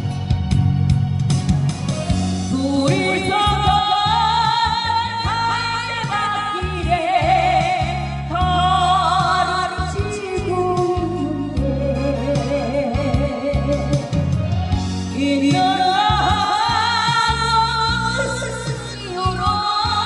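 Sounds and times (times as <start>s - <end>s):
backing band with bass beat: 0.0s - 20.0s.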